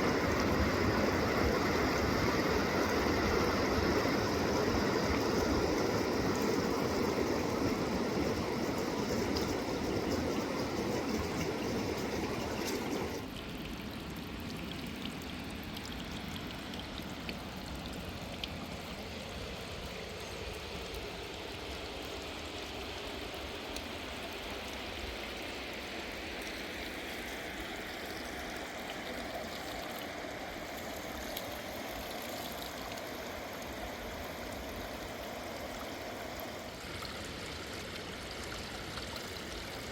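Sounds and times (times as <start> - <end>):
river water rushing: 0.0 - 13.5, 16.0 - 39.9.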